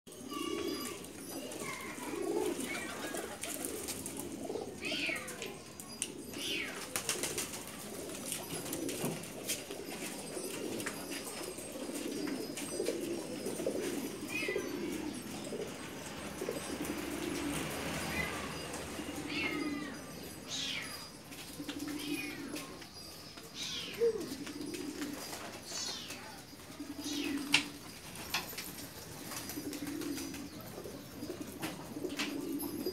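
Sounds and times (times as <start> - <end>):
pigeons cooing: 0.1 - 32.9.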